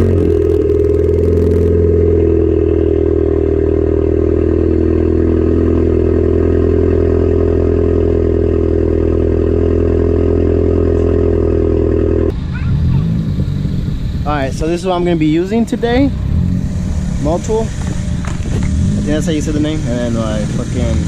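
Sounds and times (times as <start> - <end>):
car engine idling high: 0.0 - 21.0.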